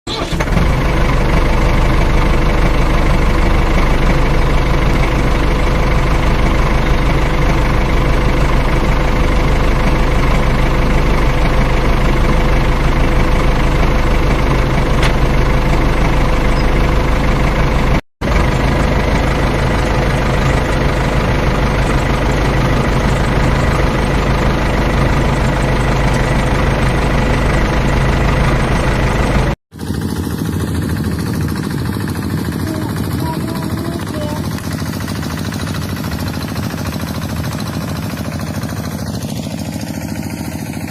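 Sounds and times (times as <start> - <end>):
tractor engine rumbling: 0.0 - 40.9.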